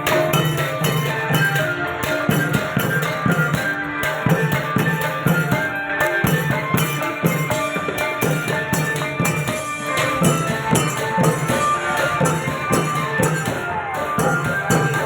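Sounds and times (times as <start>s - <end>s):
long drums playing a driving beat: 0.0s - 15.0s
small ringing cymbals: 0.0s - 15.0s.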